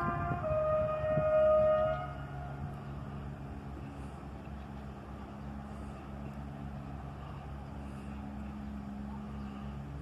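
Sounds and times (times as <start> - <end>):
distant vehicle humming: 0.0 - 10.0.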